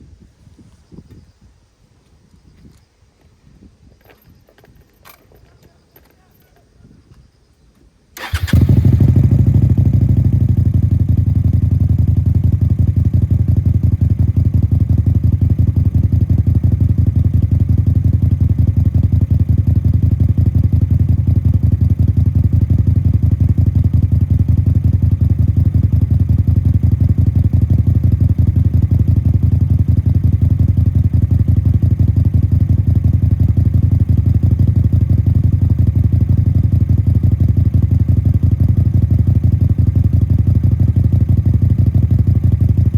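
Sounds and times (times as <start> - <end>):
motorcycle engine idling: 8.2 - 42.9.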